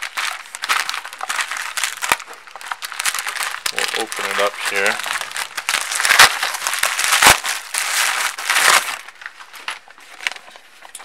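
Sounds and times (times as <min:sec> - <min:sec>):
packaging crinkling and rustling: 0:00.0 - 0:11.0
sharp cracks: 0:00.2 - 0:09.0.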